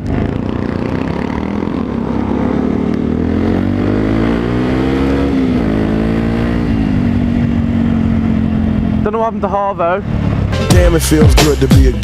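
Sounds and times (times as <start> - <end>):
low wind rumble: 0.0 - 10.6
motorcycle engine accelerating: 0.0 - 12.0.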